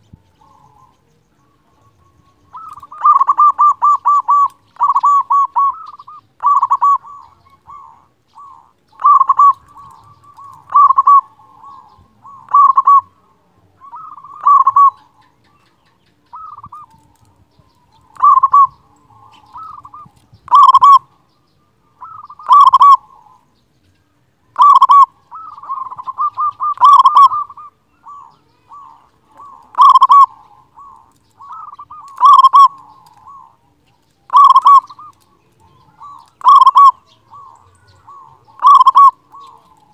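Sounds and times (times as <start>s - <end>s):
dove cooing: 0.0s - 23.5s, 24.5s - 39.9s.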